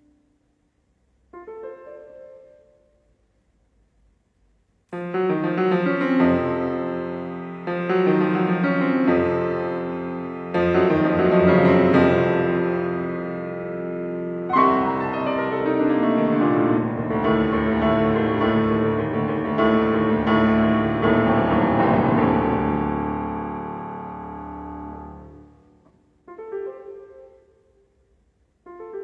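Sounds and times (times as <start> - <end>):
grand piano playing: 1.4 - 3.0, 4.9 - 27.6.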